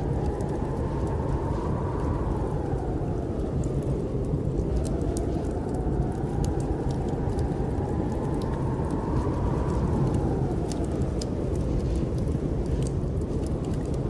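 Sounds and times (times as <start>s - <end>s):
snowstorm wind blowing: 0.0s - 14.0s
whistling wind gust: 0.0s - 14.0s
wood fire crackling: 0.0s - 14.0s.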